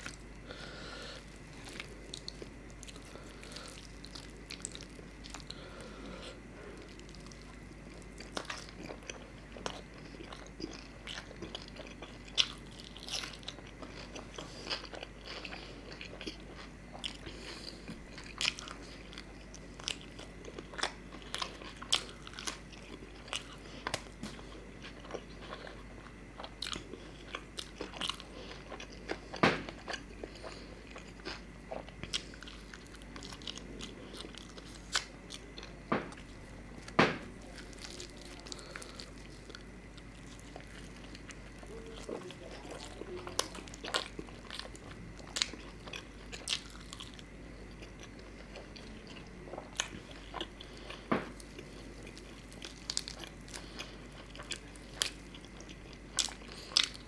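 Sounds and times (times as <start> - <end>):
chewing with wet mouth smacks: 1.2 - 5.9, 6.6 - 57.0.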